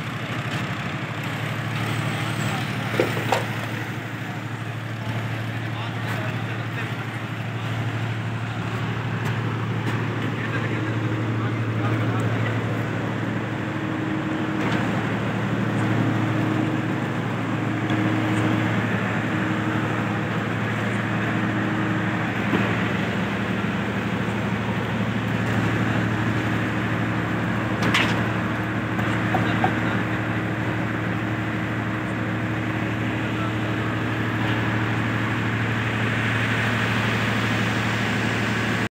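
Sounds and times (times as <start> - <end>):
low engine hum: 0.0 - 38.9.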